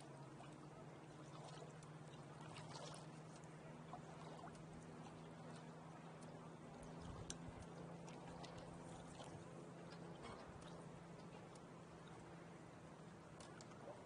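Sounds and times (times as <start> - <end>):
faint low hum: 0.0 - 14.0
small splashes: 0.0 - 14.0
water lapping against hull: 0.0 - 14.0.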